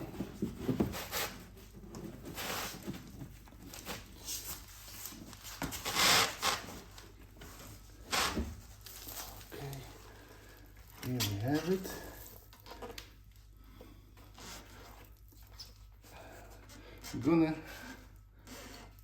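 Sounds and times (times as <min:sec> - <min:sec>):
parts rustling and scraping: 0:00.0 - 0:19.0.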